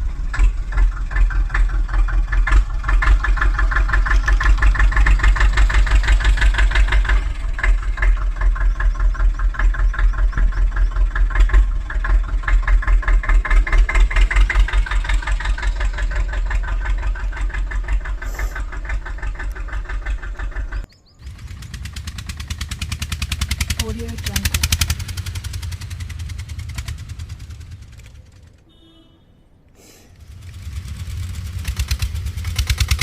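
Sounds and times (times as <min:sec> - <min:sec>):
diesel tractor engine running: 0:00.0 - 0:28.7, 0:30.2 - 0:33.0.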